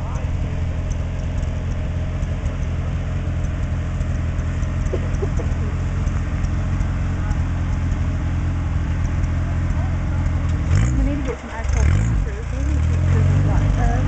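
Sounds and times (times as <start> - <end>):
engine droning at low revs: 0.0 - 14.0.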